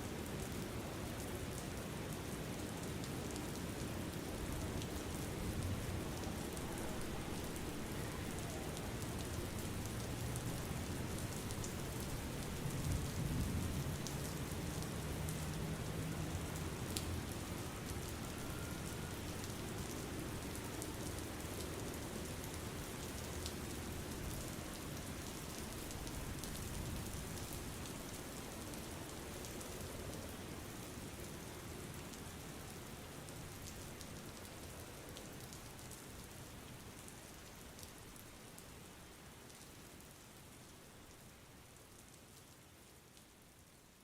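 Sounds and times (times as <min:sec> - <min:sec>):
rain falling: 0:00.0 - 0:44.0.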